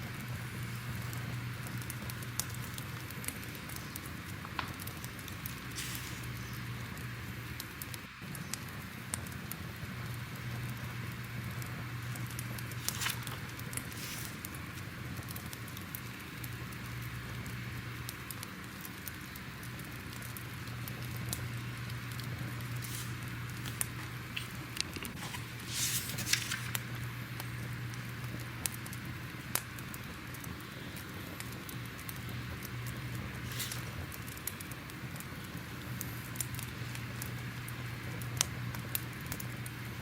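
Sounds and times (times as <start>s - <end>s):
fire crackling: 0.0s - 40.0s.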